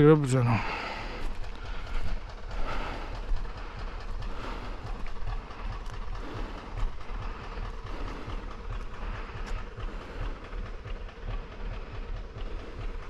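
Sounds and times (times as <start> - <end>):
tractor diesel engine running: 0.0 - 13.0
scattered clicks and knocks: 0.8 - 13.0.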